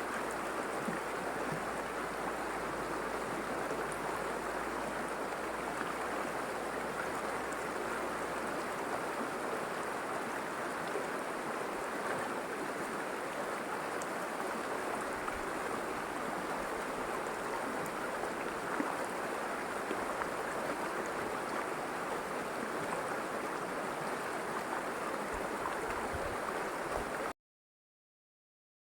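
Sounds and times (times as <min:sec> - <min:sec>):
river water rushing over rocks: 0:00.0 - 0:27.3.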